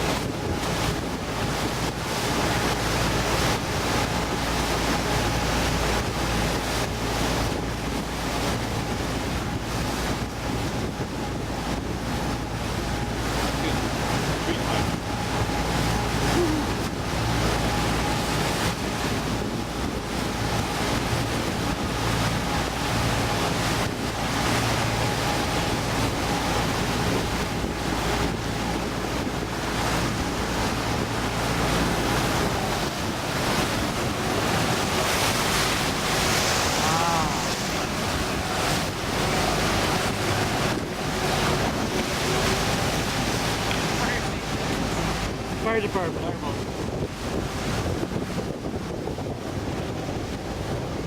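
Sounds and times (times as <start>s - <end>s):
motorboat engine hum: 0.0s - 51.0s
water rushing past hull: 0.0s - 51.0s
wind buffeting microphone: 0.0s - 51.0s.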